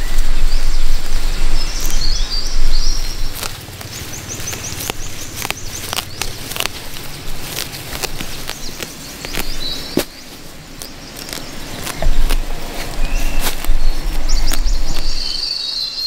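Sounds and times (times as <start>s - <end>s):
twigs snapping: 0.1s - 15.5s.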